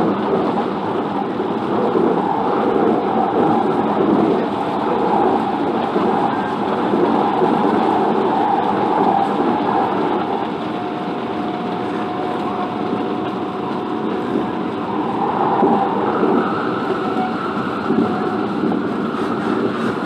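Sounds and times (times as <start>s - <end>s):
rumble of wheels on rail: 0.0s - 20.0s
thin steady whine: 0.0s - 20.0s.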